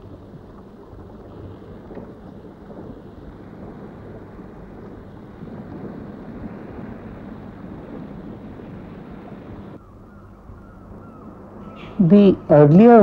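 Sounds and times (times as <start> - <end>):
low rumbling ambient noise: 0.0 - 13.0.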